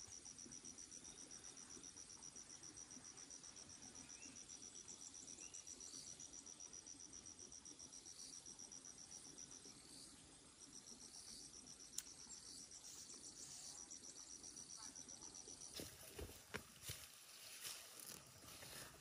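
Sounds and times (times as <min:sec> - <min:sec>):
faint insect chirping: 0:00.0 - 0:19.0.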